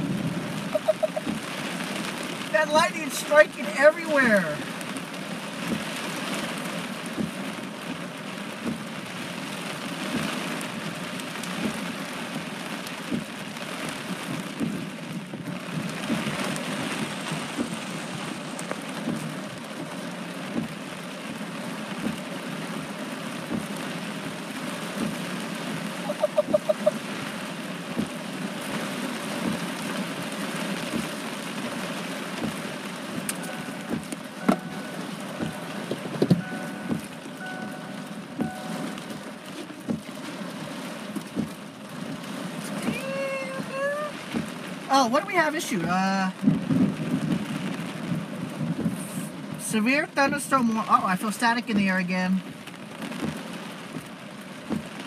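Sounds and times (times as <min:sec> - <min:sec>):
rain ticking on a car: 0:00.0 - 0:55.0.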